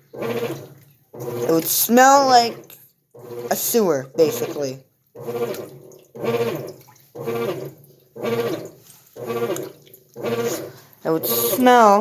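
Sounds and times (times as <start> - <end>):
washing machine agitating: 0.0 - 12.0.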